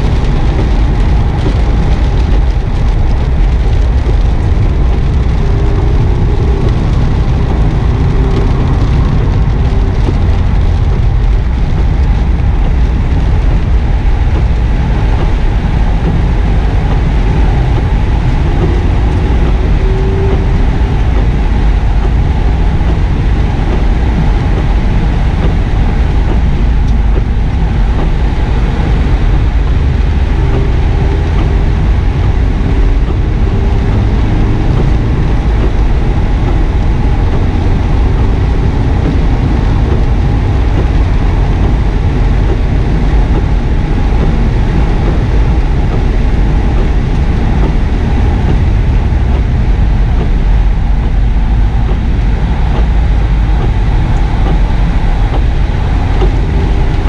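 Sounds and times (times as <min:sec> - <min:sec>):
car engine pulling hard: 0:00.0 - 0:57.0
road and tyre noise: 0:00.0 - 0:57.0.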